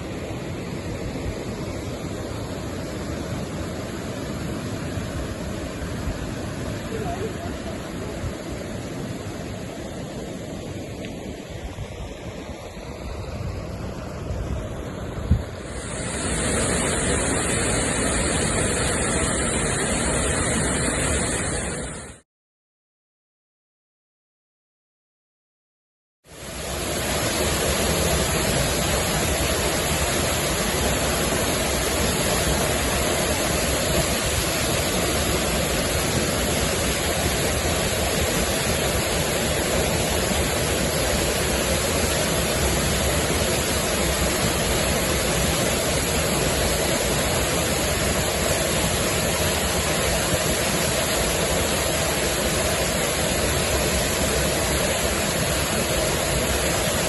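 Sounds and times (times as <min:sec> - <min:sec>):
waterfall rushing: 0:00.0 - 0:22.2, 0:26.3 - 0:57.0.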